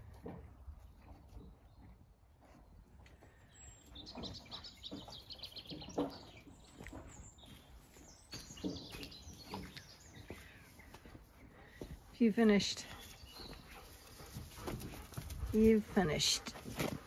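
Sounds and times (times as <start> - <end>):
small birds chirping: 1.4 - 16.4.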